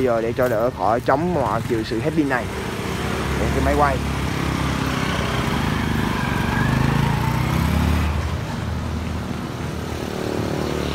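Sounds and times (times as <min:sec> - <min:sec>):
vehicle engine humming: 0:00.0 - 0:10.9.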